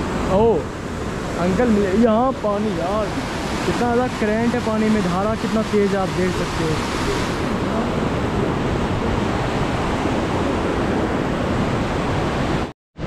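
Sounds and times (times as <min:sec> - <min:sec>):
river rushing over rocks: 0:00.0 - 0:12.7.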